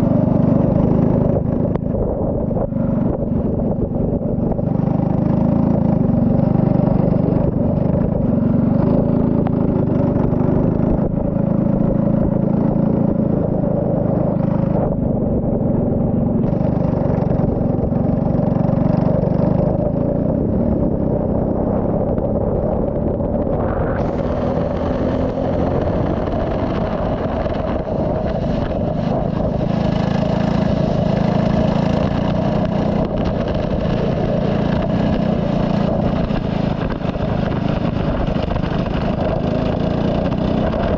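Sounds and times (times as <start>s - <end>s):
race car engine revving: 0.7s - 40.9s.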